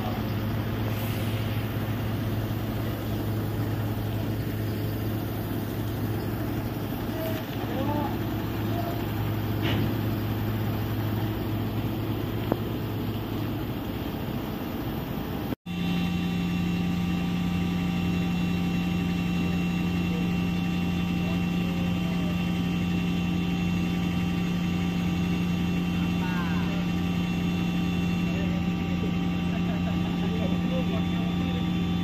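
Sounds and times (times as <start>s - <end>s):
excavator diesel engine idling: 0.0s - 32.0s.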